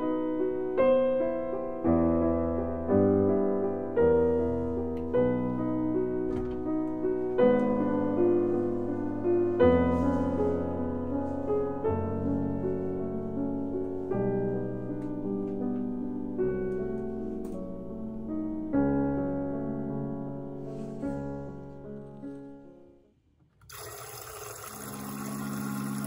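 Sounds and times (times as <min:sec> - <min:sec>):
slow piano chords: 0:00.0 - 0:23.1.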